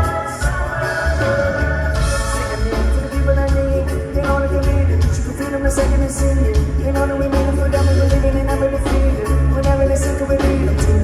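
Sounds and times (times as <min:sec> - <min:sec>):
heavy bass line: 0:00.0 - 0:11.0
live reggae rock band: 0:00.0 - 0:11.0.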